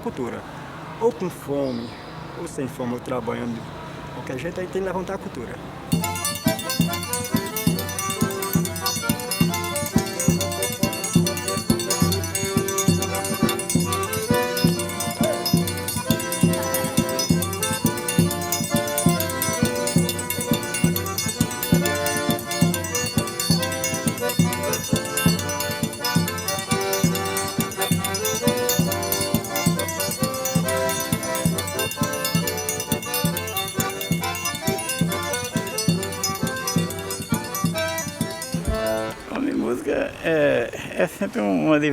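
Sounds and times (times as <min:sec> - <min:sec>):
percussion beat: 0:05.9 - 0:39.7
button accordion playing: 0:05.9 - 0:40.2.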